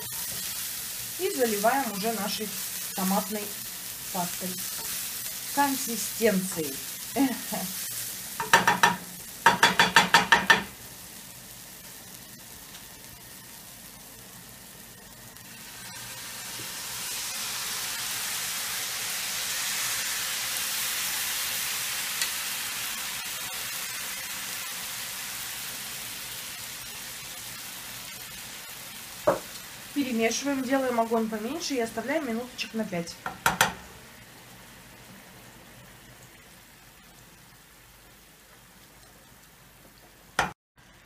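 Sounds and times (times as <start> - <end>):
frying pan sizzling: 0.0 - 41.0.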